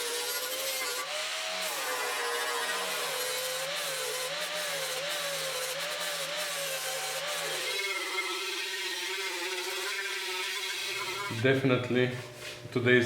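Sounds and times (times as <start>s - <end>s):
angle grinder grinding metal: 0.0s - 12.5s.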